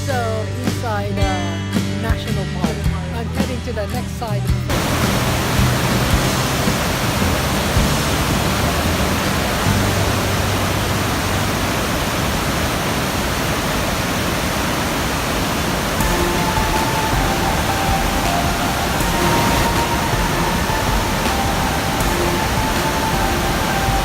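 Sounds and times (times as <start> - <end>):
waterfall roaring: 4.7 - 24.0.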